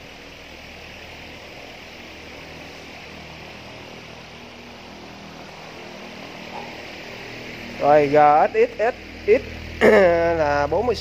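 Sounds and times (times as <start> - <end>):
background hum and hiss: 0.0 - 11.0.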